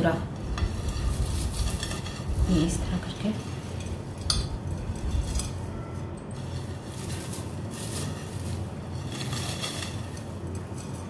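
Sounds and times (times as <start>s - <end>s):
dry strands rustling and crackling: 0.0s - 11.0s
low steady hum: 0.0s - 11.0s.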